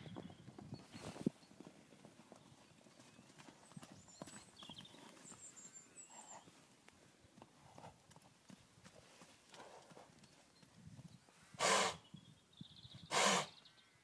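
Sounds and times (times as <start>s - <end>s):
hoofbeats on muddy ground: 0.0s - 11.4s.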